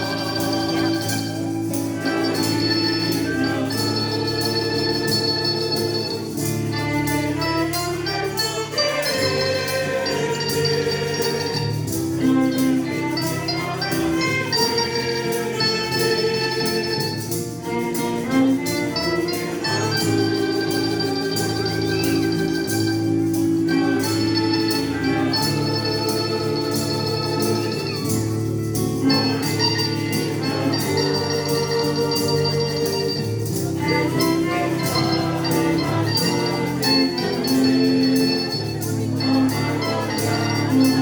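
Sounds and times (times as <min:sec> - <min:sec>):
held organ-like chords: 0:00.0 - 0:41.0
strummed beat: 0:00.0 - 0:41.0.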